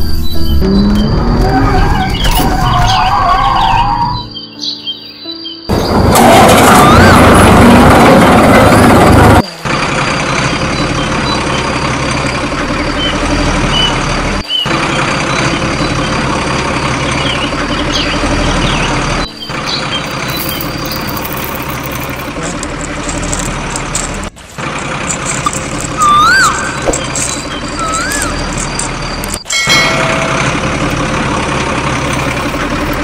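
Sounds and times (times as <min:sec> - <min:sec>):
heavy truck engine running: 0:00.0 - 0:04.3, 0:05.7 - 0:33.0.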